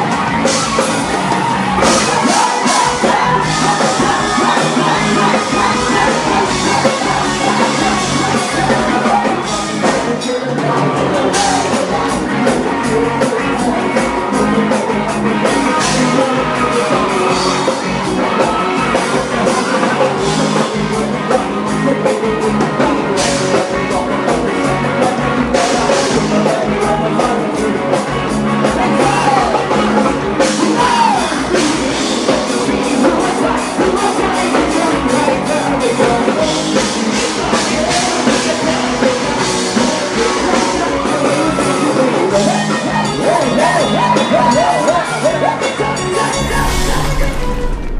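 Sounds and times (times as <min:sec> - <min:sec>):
man singing into a microphone: 0:00.0 - 0:47.6
drum kit: 0:00.0 - 0:47.9
live rock band playing: 0:00.0 - 0:47.9.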